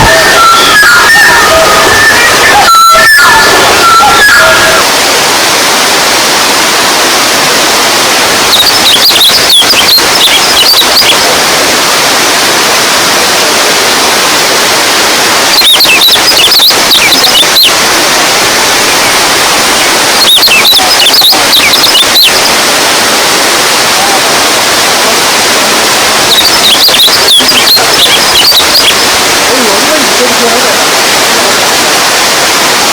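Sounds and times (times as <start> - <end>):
running water rushing: 0.0 - 32.9.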